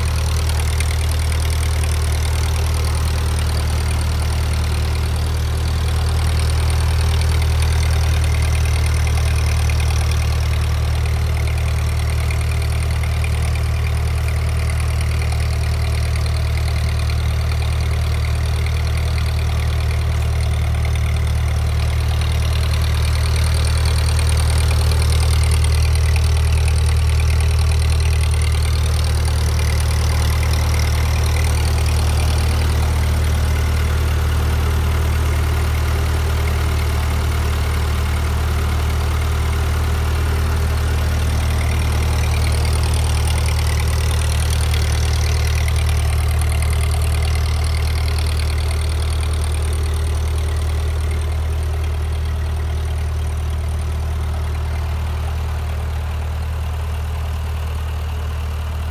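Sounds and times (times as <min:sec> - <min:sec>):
tractor engine idling: 0:00.0 - 0:58.9.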